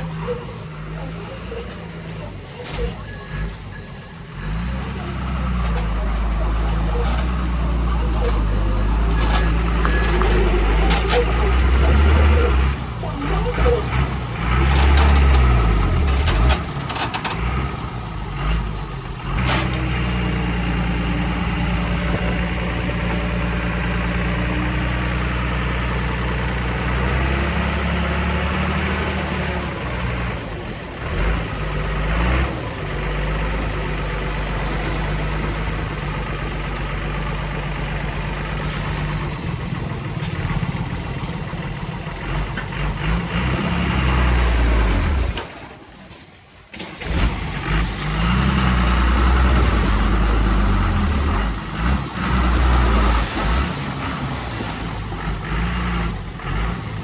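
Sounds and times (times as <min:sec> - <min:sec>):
heavy diesel engine under load: 0:00.0 - 0:57.0.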